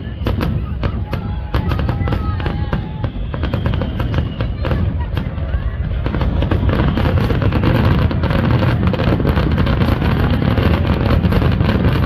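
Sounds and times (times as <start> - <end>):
fireworks barrage crackling: 0.0 - 12.0.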